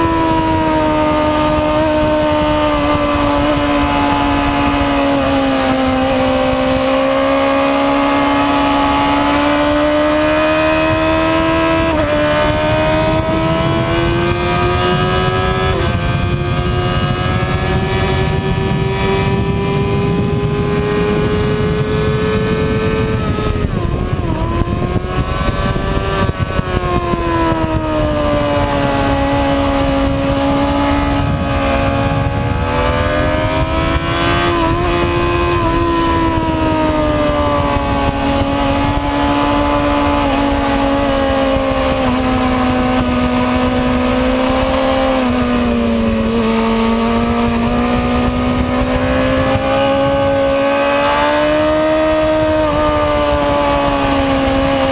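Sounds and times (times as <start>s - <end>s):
motorcycle engine at speed: 0.0s - 54.9s
wind noise rushing: 0.0s - 54.9s.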